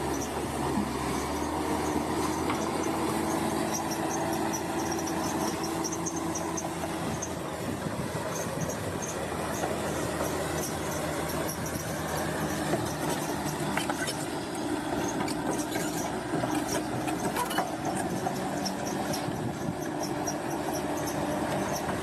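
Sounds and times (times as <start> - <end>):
steel tracks clattering and squeaking: 0.0 - 7.6, 8.2 - 22.0
bulldozer diesel engine running: 0.0 - 22.0.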